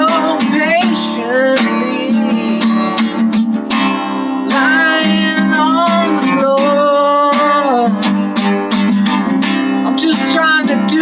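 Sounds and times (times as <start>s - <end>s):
bending guitar melody: 0.0s - 11.0s
strummed acoustic guitar chords: 0.0s - 11.0s.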